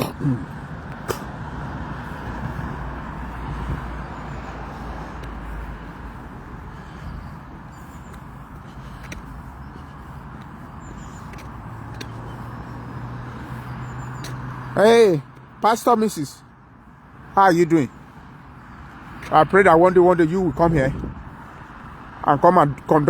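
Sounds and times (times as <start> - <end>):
passing cars: 0.0 - 23.0.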